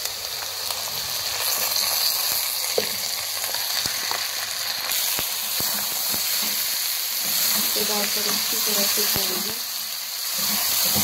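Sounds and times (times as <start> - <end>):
chicken sizzling in hot oil: 0.0 - 11.0
oil crackles and spatters: 0.0 - 11.0.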